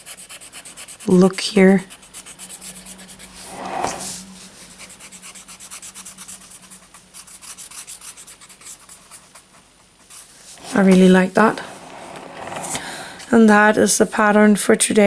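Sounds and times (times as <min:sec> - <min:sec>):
paper stump rubbing charcoal on paper: 0:00.0 - 0:12.8.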